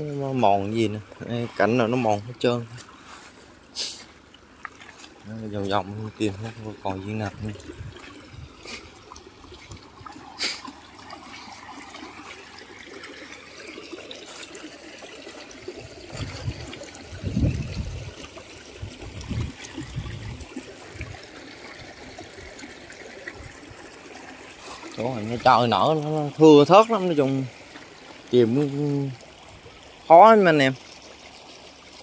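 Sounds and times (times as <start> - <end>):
stream trickling over stones: 0.0 - 32.0.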